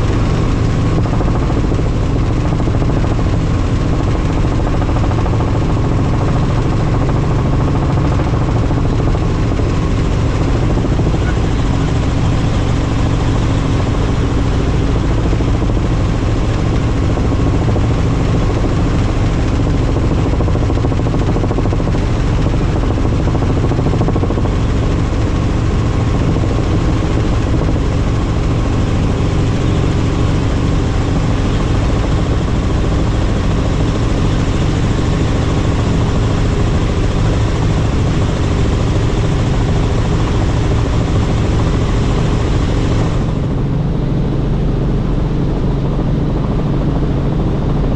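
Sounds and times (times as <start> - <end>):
helicopter rotor drone: 0.0 - 47.9.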